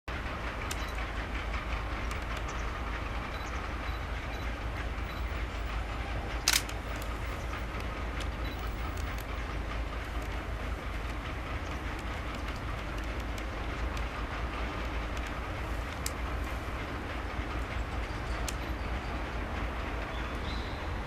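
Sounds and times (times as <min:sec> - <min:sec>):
electric train rumbling on rails: 0:00.1 - 0:21.0.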